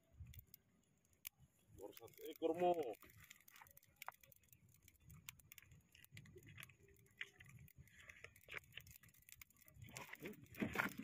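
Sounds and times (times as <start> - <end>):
small fire crackling: 0.0 - 11.0.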